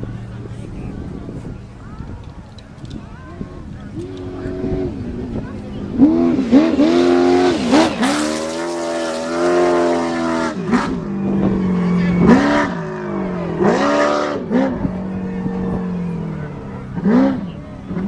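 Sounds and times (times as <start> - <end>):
truck engine revving: 2.6 - 18.0.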